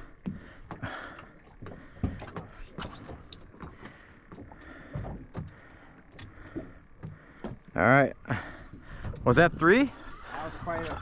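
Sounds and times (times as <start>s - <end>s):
faint boat noise: 0.0s - 11.0s.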